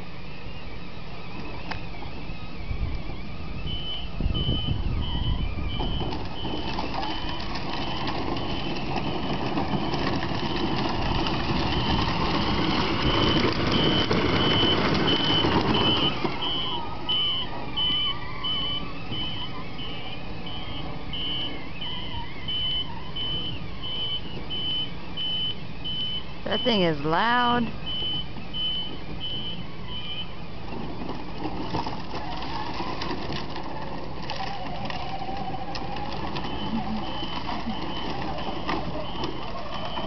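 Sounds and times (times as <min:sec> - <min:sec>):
reversing alarm beeping: 0:00.0 - 0:31.1, 0:35.4 - 0:40.0
truck engine running: 0:00.0 - 0:40.0.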